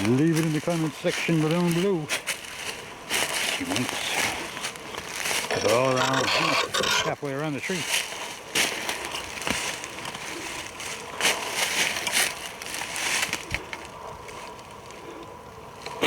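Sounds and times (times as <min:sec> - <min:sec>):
footsteps in dry leaves: 0:00.0 - 0:15.1.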